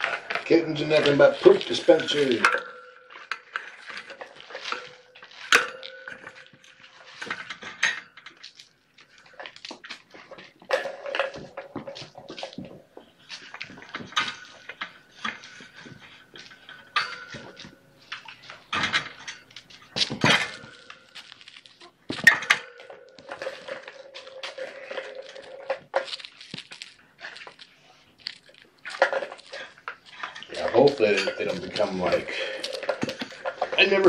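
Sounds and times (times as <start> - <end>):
plastic toys clattering: 0.0 - 34.0.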